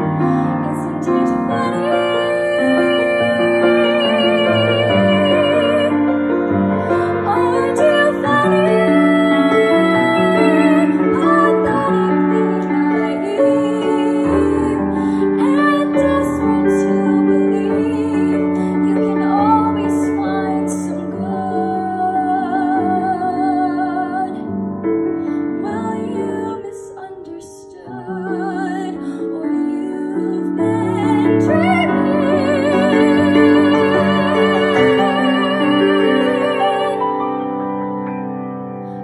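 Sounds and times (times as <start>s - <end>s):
woman singing a ballad: 0.0s - 37.7s
piano accompaniment: 0.0s - 39.0s.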